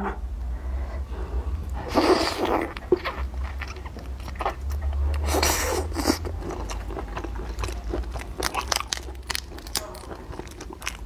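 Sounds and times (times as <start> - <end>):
sucking and slurping: 1.1 - 11.0
person chewing: 1.6 - 11.0
wet mouth noises: 1.7 - 11.0.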